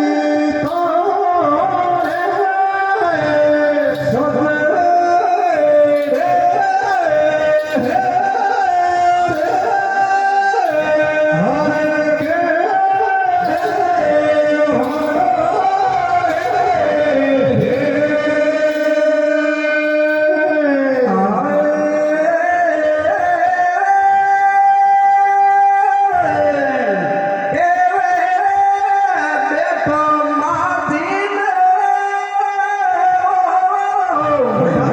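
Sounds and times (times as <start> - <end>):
drum accompaniment: 0.0 - 34.9
man singing long sliding notes: 0.0 - 34.9.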